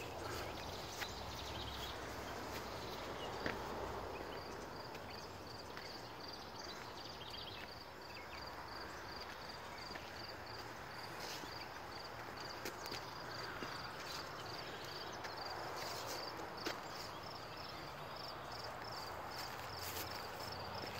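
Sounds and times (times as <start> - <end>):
footsteps on stone path: 0.0 - 20.9.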